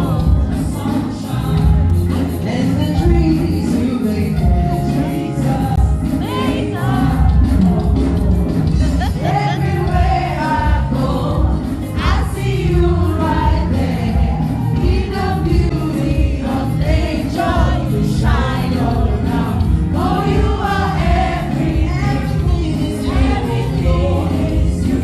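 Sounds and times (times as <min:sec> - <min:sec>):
choir singing gospel song: 0:00.0 - 0:25.0
instrumental backing: 0:00.0 - 0:25.0.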